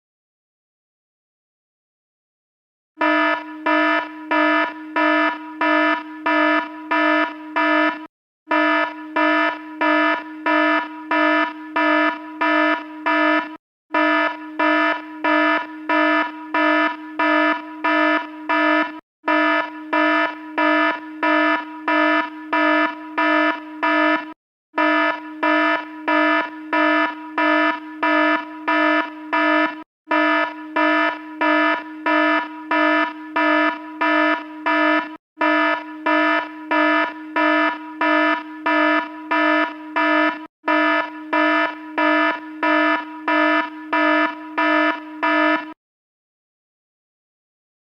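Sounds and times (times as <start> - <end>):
electronic alarm beeping: 3.0 - 45.8.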